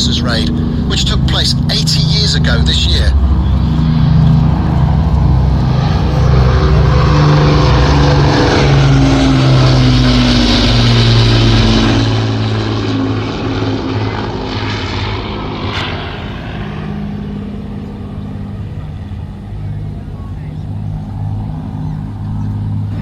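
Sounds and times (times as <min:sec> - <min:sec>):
aircraft piston engines droning: 0:00.0 - 0:23.0.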